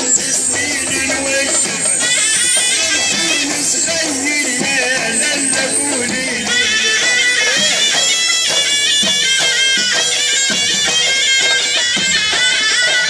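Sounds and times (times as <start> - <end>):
live folk music with reedy pipe: 0.0 - 13.0.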